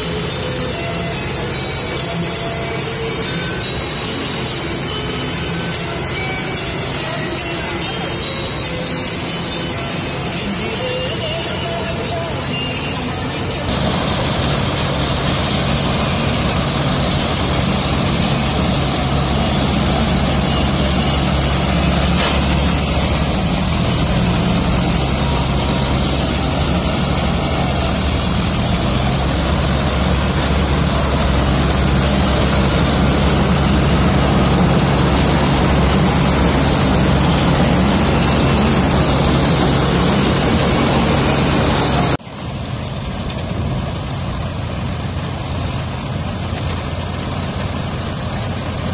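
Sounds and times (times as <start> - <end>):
harvester machinery rushing noise: 0.0 - 48.9
tractor diesel engine hum: 0.0 - 48.9.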